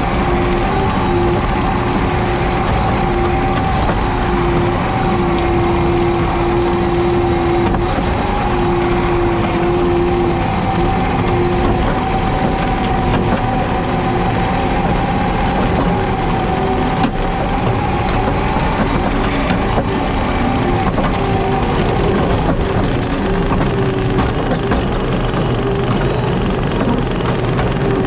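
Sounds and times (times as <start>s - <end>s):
diesel engine running: 0.0s - 28.0s
rotary mower whine: 0.0s - 28.0s.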